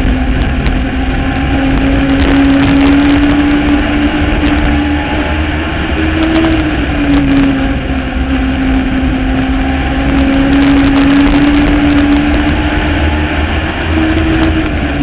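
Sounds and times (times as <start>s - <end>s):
motorcycle engine racing: 0.0s - 15.0s.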